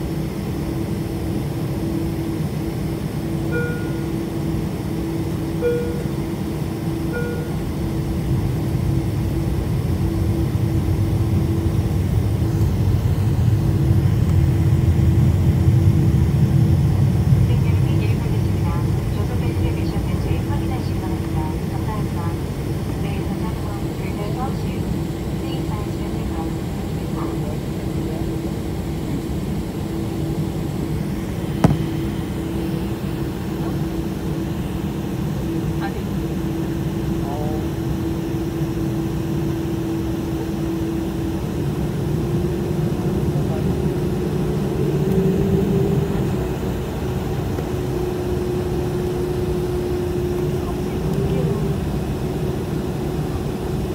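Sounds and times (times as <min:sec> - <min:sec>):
airliner engines rumbling: 0:00.0 - 0:53.9.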